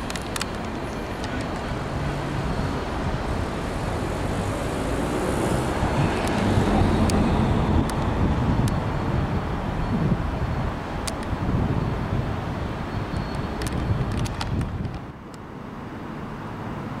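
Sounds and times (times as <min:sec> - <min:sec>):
diesel locomotive engine rumble: 0:00.0 - 0:17.0.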